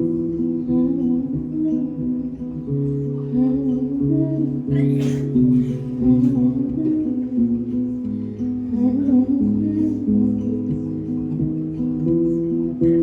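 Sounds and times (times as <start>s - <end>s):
guitar chords ringing: 0.0s - 13.0s.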